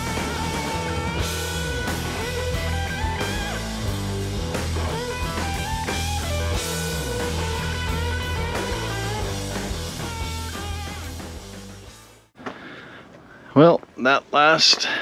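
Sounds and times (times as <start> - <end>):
guitar-led rock music: 0.0 - 12.3
steady bass line: 0.0 - 12.3.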